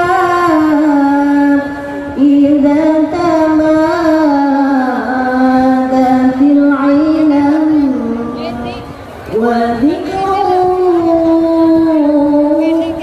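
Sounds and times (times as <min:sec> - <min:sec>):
person chanting over loudspeaker: 0:00.0 - 0:13.0.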